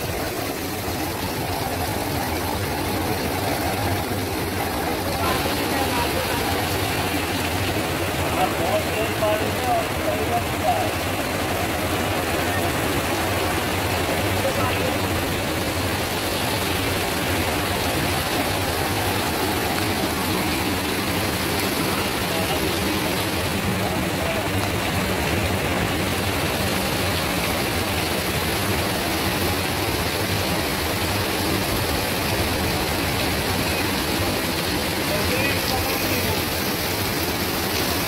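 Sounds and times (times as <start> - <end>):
heavy rain on a street: 0.0 - 38.0.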